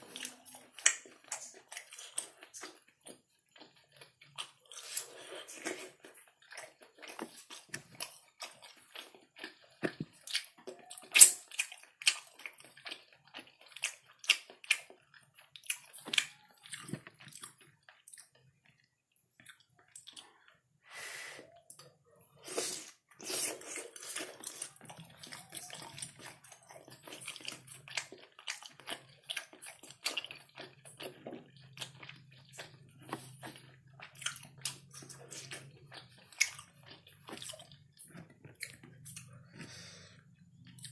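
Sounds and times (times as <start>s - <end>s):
wet chewing and lip smacking: 0.0s - 20.7s, 21.4s - 40.9s.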